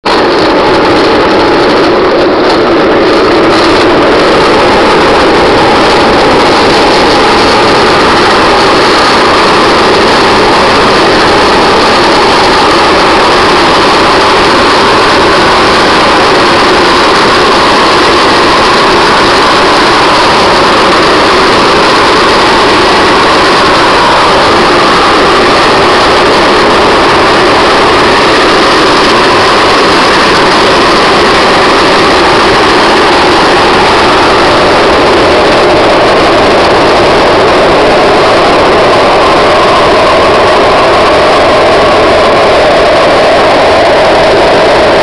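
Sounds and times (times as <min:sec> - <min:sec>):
wind rushing: 0:00.0 - 0:45.0.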